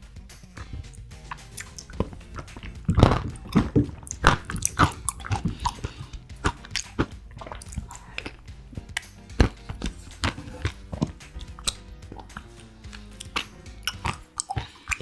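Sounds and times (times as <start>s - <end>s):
wet eating smacks and slurps: 0.6s - 15.0s.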